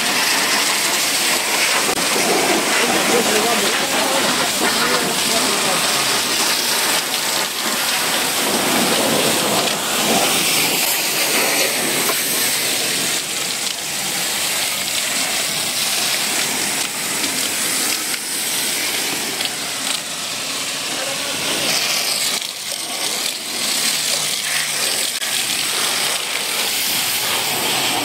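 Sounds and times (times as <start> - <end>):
foam sprayer hissing: 0.0 - 28.0.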